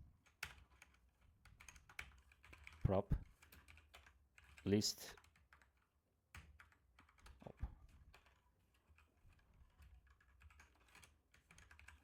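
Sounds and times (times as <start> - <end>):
typing on computer keyboard: 0.2 - 12.0.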